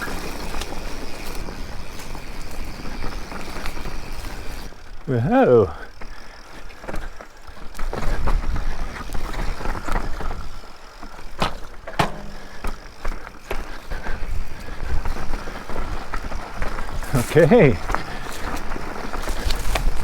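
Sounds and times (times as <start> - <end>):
bike rattling over bumps: 0.0 - 20.0
bike tyres rumbling on dirt: 0.0 - 20.0.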